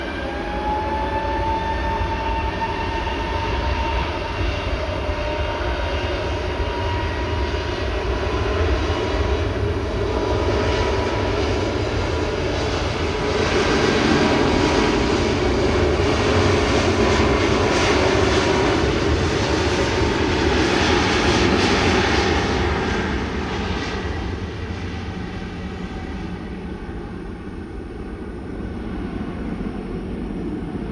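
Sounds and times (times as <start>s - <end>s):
jet engines at takeoff: 0.0s - 30.9s.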